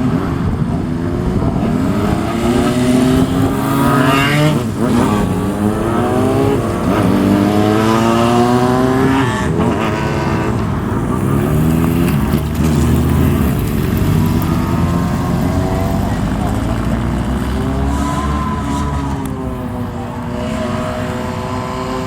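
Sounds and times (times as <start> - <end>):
motorcycle accelerating: 0.0 - 22.0.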